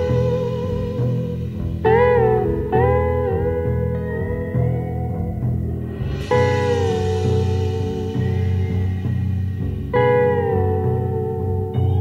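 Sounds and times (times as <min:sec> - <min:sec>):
slow background music melody: 0:00.0 - 0:12.0.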